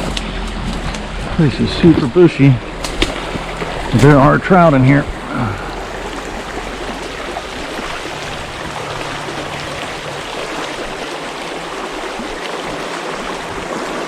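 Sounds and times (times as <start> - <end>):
creek flowing over rocks: 0.1 - 14.0.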